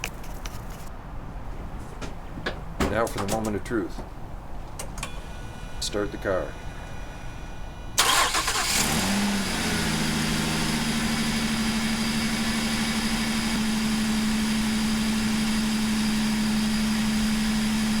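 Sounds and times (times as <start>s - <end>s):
car engine idling: 1.5s - 18.0s.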